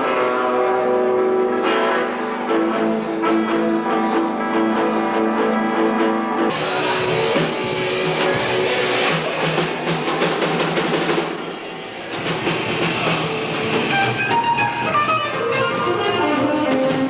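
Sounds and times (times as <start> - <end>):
live rock band playing: 0.0 - 11.5, 12.1 - 17.0.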